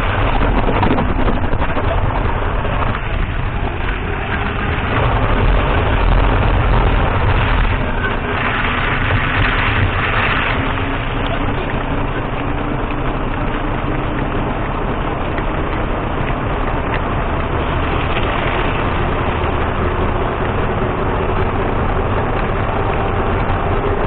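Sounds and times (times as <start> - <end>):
car cabin road noise and engine hum: 0.0 - 24.0.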